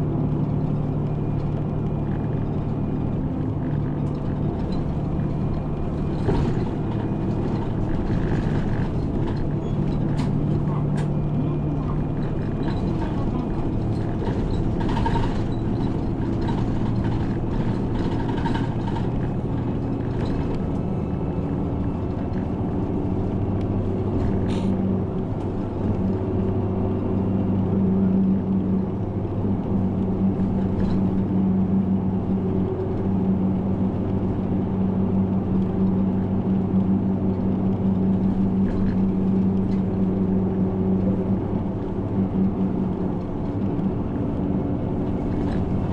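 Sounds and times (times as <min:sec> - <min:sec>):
bus engine humming: 0:00.0 - 0:45.9
road noise: 0:00.0 - 0:45.9.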